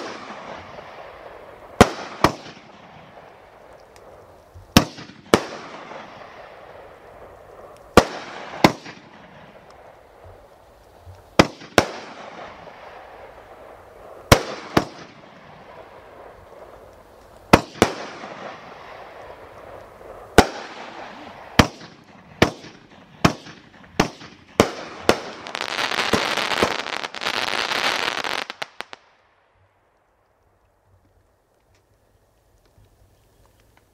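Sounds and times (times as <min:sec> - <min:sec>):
fireworks bangs: 0:00.0 - 0:03.5, 0:04.6 - 0:10.5, 0:11.3 - 0:29.1
fireworks crackling hiss: 0:00.0 - 0:29.2.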